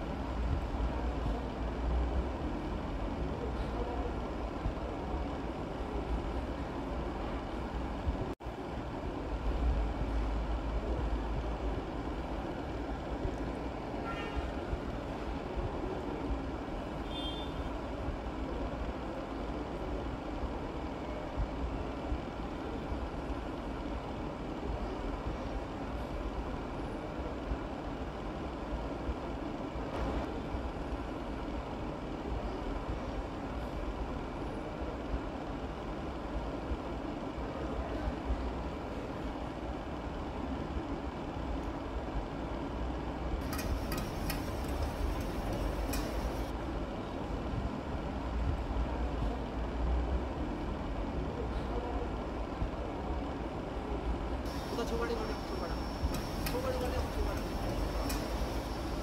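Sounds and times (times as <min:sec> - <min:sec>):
kitchen ventilation fan noise: 0:00.0 - 0:59.0.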